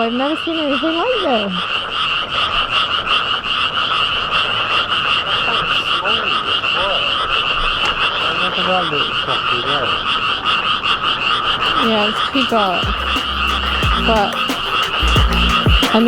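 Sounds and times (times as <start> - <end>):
chorus of frogs croaking: 0.0 - 16.0.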